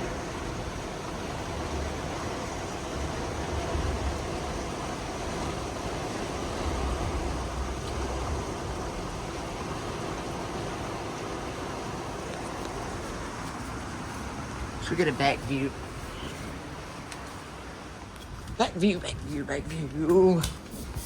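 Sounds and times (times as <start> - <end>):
heavy rain pouring: 0.0 - 21.0
low gusty rumbles: 0.0 - 21.0
wind: 0.0 - 21.0.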